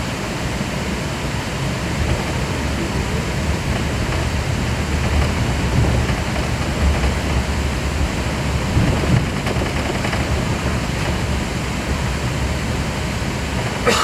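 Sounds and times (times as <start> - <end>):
airliner rumble and hiss: 0.0 - 14.0.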